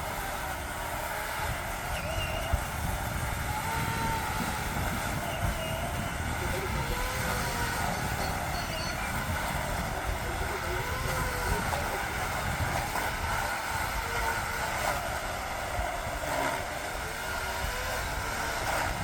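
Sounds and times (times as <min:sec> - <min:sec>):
engine running: 0:00.0 - 0:19.0
wind on microphone: 0:00.0 - 0:19.0.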